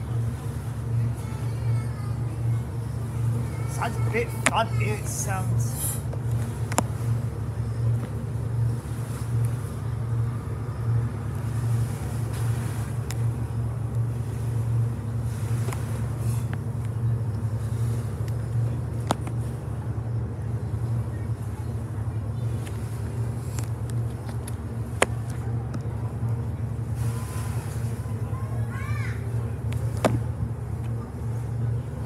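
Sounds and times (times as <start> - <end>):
ferry engines droning: 0.0 - 32.0.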